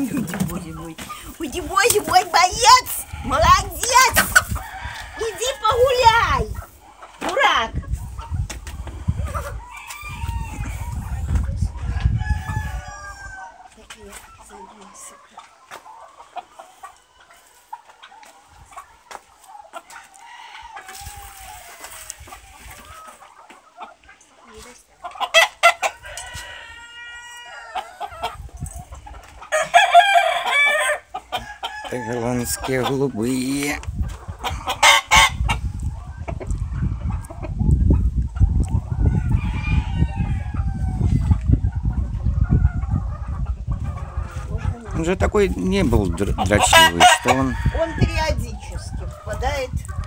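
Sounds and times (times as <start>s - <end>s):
chickens clucking: 0.0s - 50.0s
drawn-out chicken call: 0.0s - 50.0s.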